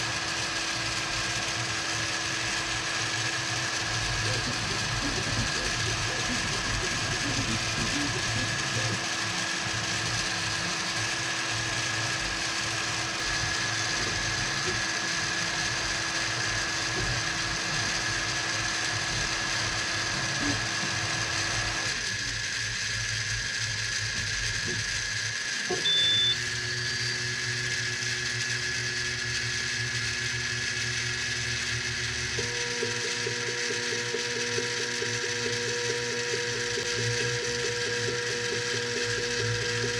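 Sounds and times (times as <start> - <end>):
stepper motors whirring: 0.0 - 39.9.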